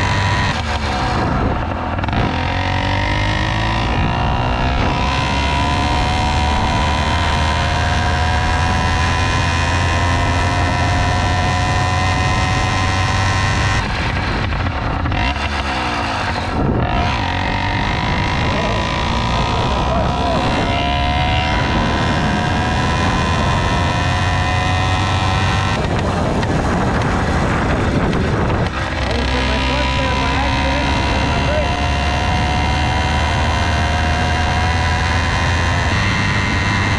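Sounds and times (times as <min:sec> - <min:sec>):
two-stroke engine running: 0:00.0 - 0:36.9.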